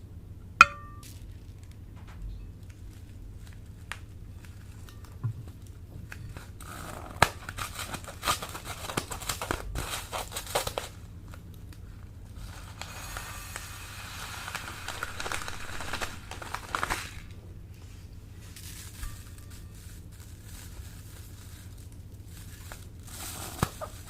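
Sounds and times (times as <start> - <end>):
slime crinkling and crackling: 1.0 - 24.0.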